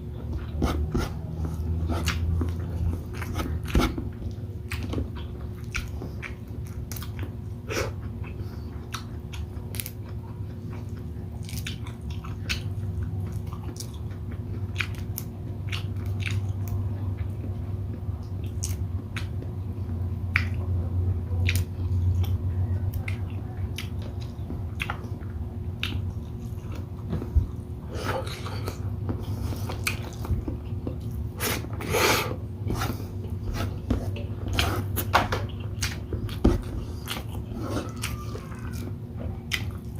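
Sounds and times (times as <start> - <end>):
person chewing food: 0.0 - 20.7, 21.4 - 39.9.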